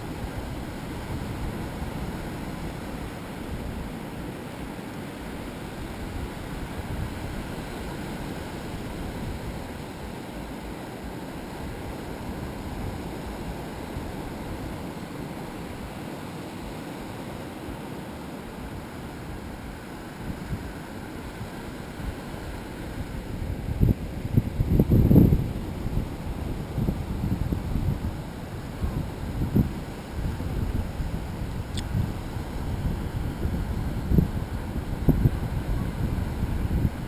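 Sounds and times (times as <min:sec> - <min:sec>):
surf on sandy beach: 0:00.0 - 0:37.0
wind rumbling on microphone: 0:00.0 - 0:37.0.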